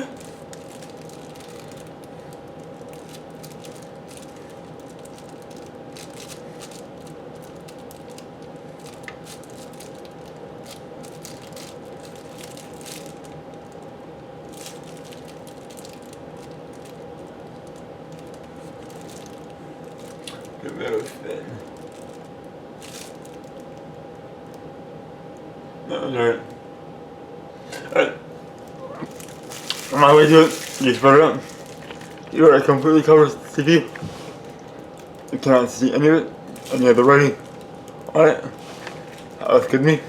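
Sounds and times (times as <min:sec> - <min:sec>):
plastic bag crinkling: 0:00.0 - 0:24.0, 0:28.5 - 0:40.0
background hum with thin whine: 0:00.0 - 0:40.0.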